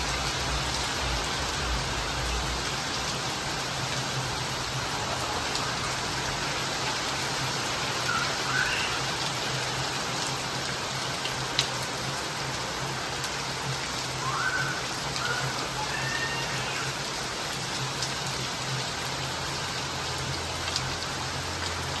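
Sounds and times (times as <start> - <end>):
rain drips: 0.0 - 22.0
steady rain hiss: 0.0 - 22.0.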